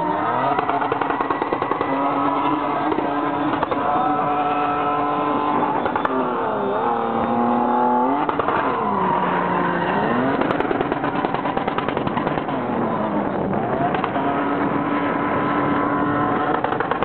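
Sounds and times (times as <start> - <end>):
engine revving high: 0.0 - 17.0.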